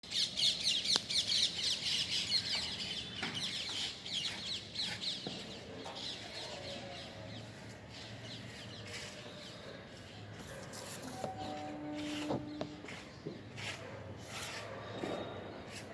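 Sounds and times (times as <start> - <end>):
flock of birds chirping: 0.0 - 15.9.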